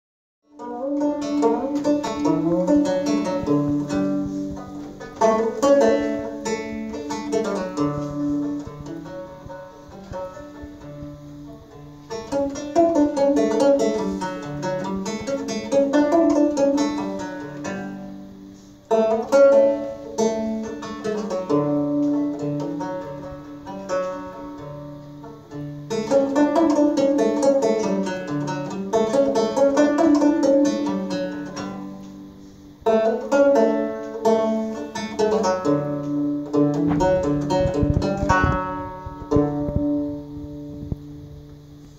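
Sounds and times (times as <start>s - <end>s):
banjo plucked notes: 0.4s - 41.9s.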